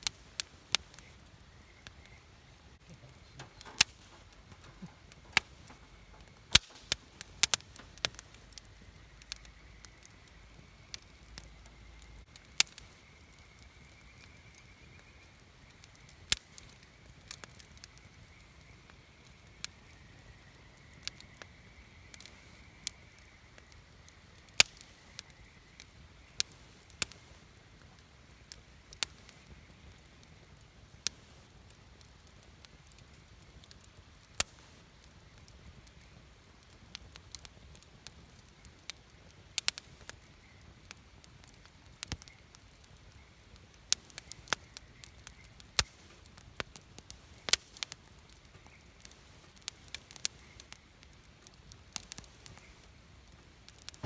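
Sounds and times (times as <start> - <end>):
campfire pops and crackles: 0.0 - 54.0
quiet fire hiss: 0.0 - 54.0.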